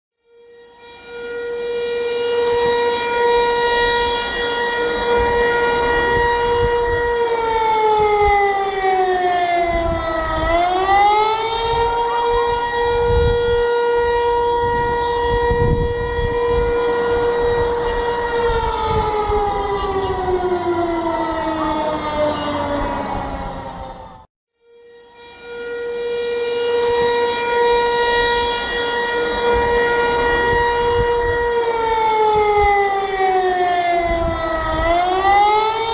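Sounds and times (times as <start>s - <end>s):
air-raid siren: 0.2s - 35.9s.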